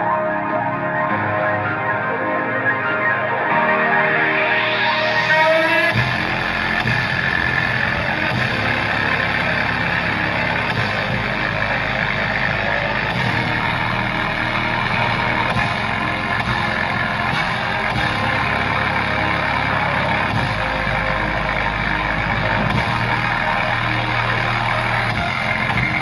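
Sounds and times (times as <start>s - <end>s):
loud bass-heavy music from woofer: 2.8s - 26.0s.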